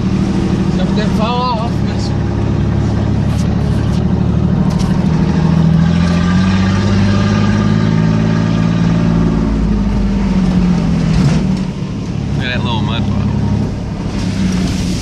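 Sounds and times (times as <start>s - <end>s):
pickup engine pulling: 0.0s - 15.0s.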